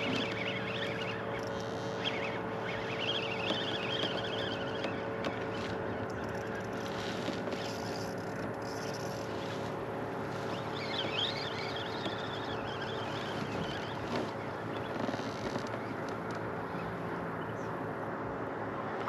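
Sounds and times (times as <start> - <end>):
electric motor humming: 0.0 - 17.4
bird calling: 0.0 - 17.8
water noise: 0.0 - 19.0
wind: 0.0 - 19.0.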